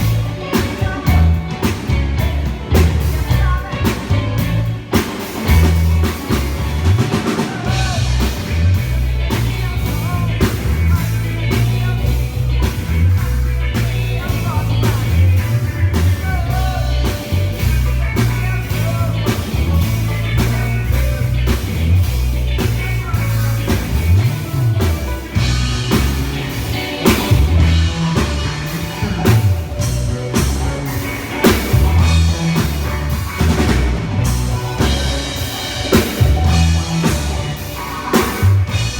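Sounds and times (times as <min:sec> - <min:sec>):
drum kit: 0:00.0 - 0:38.9
guitar: 0:00.0 - 0:38.9
heavy bass line: 0:00.0 - 0:38.9.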